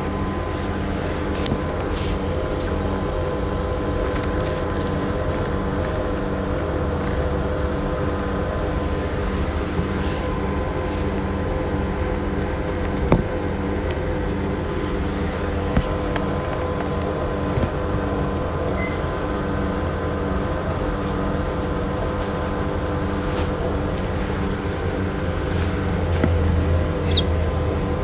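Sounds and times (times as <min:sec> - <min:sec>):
bus diesel engine idling: 0:00.0 - 0:28.0.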